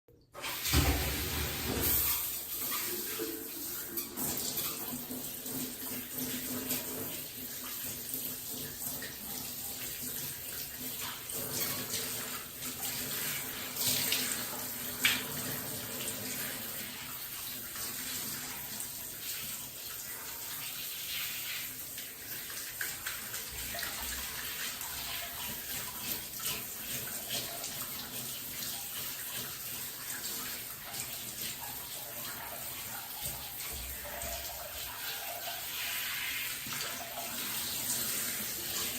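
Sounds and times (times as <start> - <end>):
tap water splashing: 0.3 - 18.9, 21.5 - 35.7.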